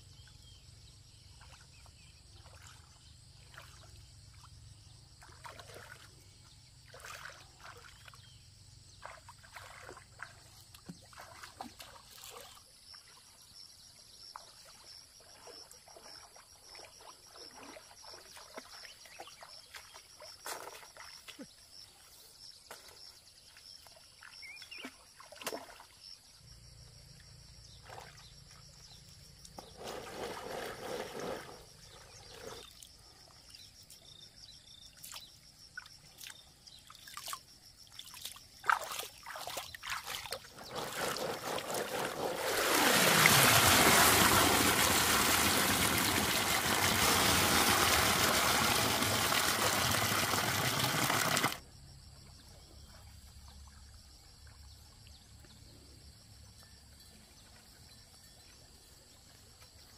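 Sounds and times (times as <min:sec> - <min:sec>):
water splashing and sloshing: 0:01.3 - 0:08.4, 0:09.0 - 0:13.4, 0:14.2 - 0:26.3, 0:27.2 - 0:51.6.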